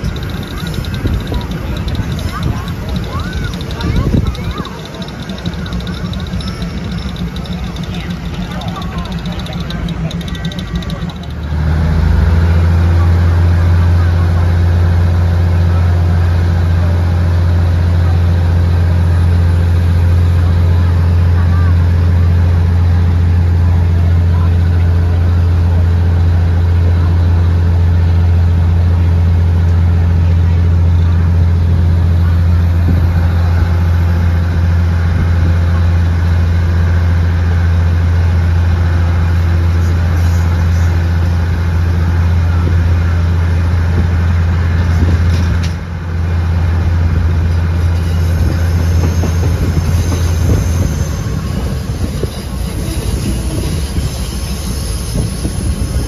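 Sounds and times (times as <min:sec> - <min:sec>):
diesel locomotive engine drone: 0:00.0 - 0:56.0
train carriages running: 0:00.0 - 0:56.0.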